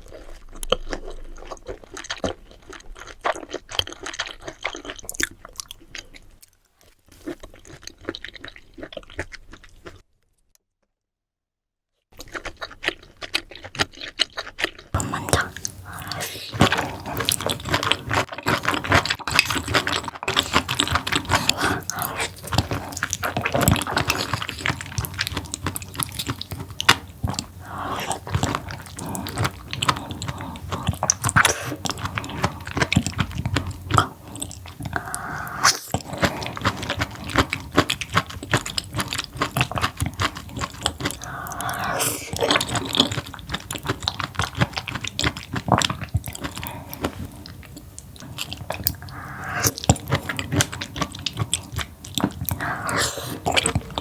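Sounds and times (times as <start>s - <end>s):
wet chewing: 0.0s - 10.0s, 12.2s - 54.0s.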